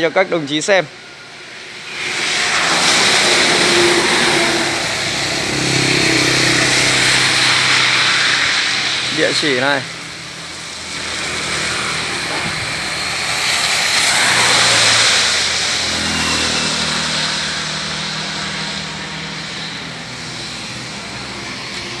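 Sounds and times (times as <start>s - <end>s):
engine humming: 0.0s - 22.0s
vehicle passing close by: 1.0s - 22.0s.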